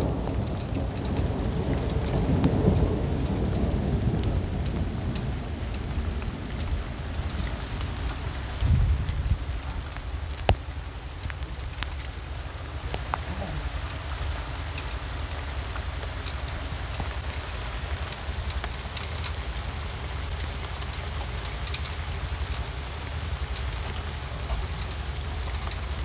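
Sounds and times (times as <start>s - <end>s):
low rumble: 0.0s - 26.0s
sharp raindrop hits: 0.0s - 26.0s
steady rain falling: 0.0s - 26.0s.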